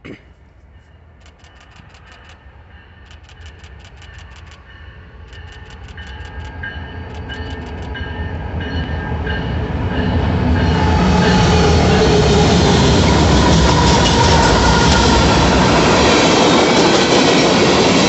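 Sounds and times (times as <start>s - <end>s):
freight train engine and wheel rumble: 0.0s - 18.0s.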